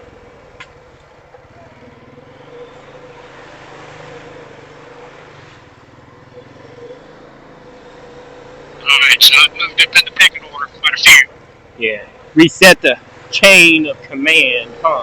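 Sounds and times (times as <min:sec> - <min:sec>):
quad bike engine droning: 0:00.0 - 0:15.0.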